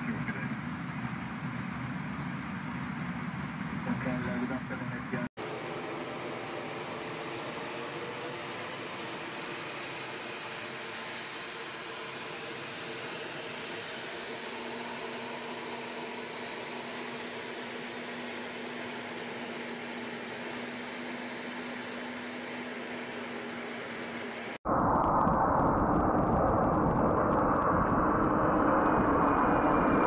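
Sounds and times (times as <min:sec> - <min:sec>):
aircraft engine noise: 0:00.0 - 0:30.0.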